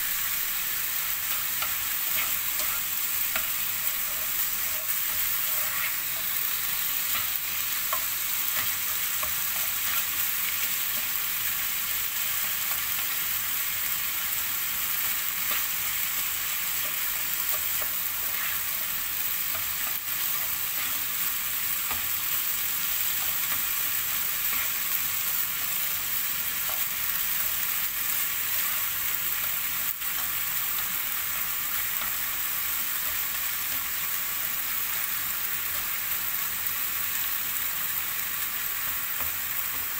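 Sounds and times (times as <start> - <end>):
meat sizzling in a pan: 0.0 - 39.9.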